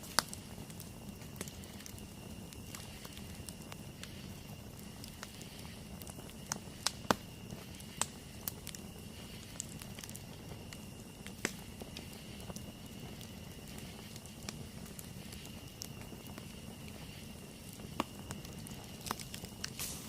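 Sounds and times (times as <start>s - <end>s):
campfire crackling and popping: 0.0s - 20.0s
low rumble of flame: 0.0s - 20.0s.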